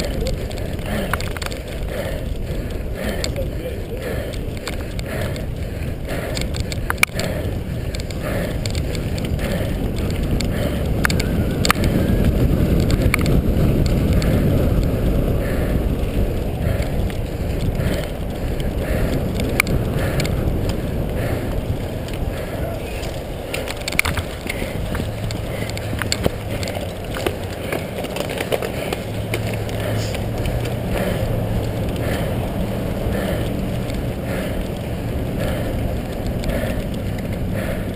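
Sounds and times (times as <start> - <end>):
bike chain and frame rattling: 0.0 - 37.9
bike tyres rumbling over grass: 0.0 - 37.9
wind: 0.0 - 37.9.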